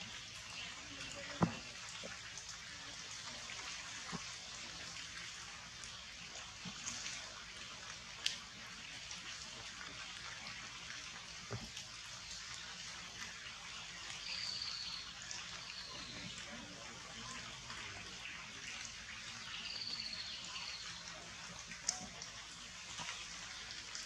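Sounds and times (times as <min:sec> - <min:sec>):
rain falling on leaves: 0:00.0 - 0:24.0
sharp taps and drips: 0:00.1 - 0:24.0.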